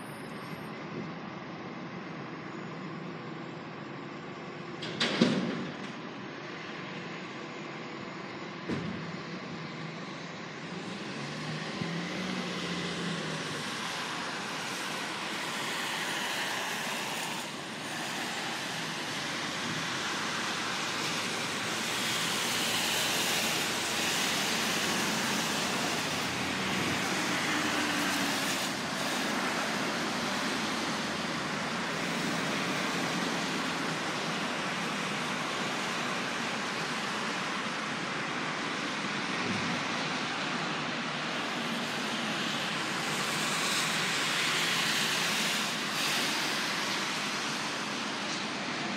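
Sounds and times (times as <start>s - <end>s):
highway traffic: 0.0s - 48.9s.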